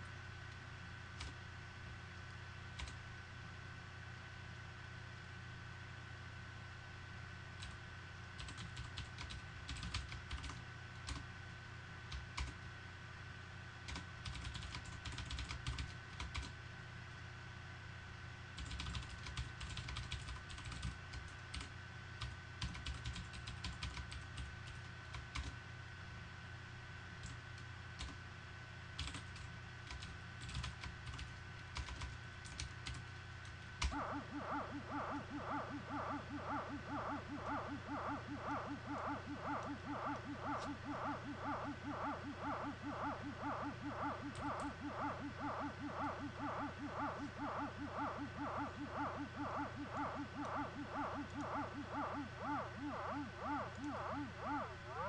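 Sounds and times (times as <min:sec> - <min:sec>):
faint electrical hum: 0:00.0 - 0:55.0.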